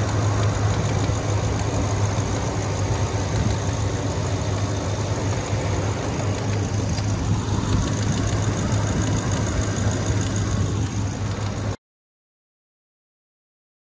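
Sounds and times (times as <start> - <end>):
truck engine idling: 0.0 - 11.8.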